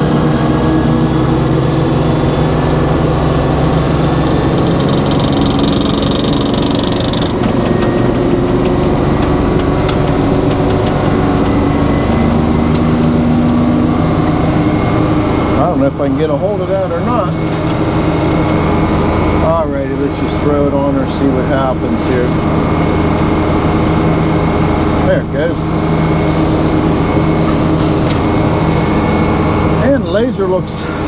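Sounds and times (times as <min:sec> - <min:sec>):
sawmill engine running: 0:00.0 - 0:31.0.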